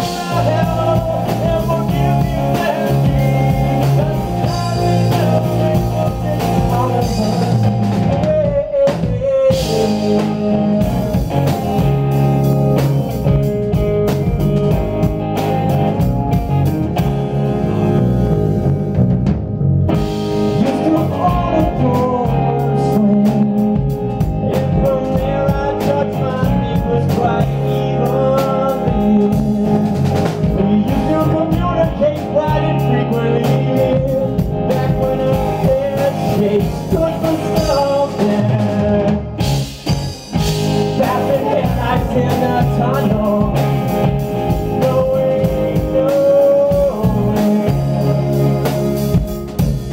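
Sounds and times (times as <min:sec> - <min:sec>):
bass guitar: 0:00.0 - 0:49.9
drum kit: 0:00.0 - 0:49.9
electric guitar: 0:00.0 - 0:49.9.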